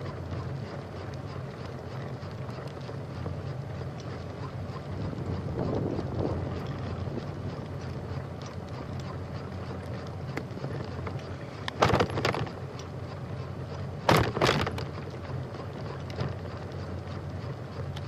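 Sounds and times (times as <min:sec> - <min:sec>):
bicycle rolling rumble: 0:00.0 - 0:18.0
steady wind: 0:00.0 - 0:18.0.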